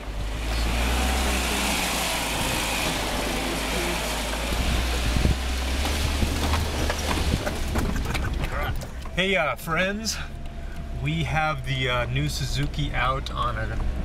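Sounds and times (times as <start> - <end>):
low engine drone: 0.0 - 13.9
tyres and wind rushing: 0.0 - 14.0.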